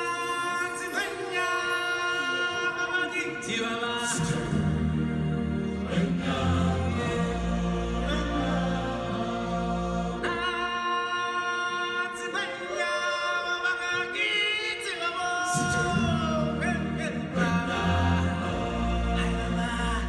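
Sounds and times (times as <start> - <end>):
choir singing long notes: 0.0 - 14.1, 15.4 - 20.0.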